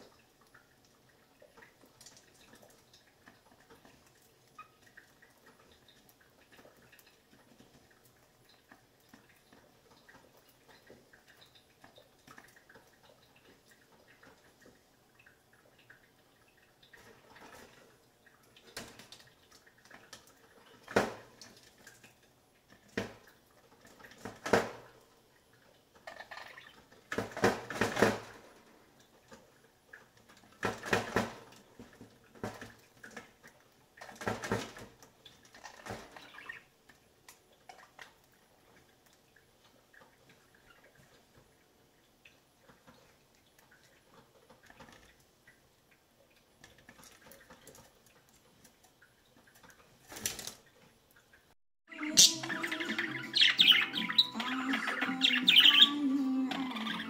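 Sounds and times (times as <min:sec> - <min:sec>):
budgies pecking at food dish: 0:00.1 - 0:25.0, 0:25.6 - 0:51.2.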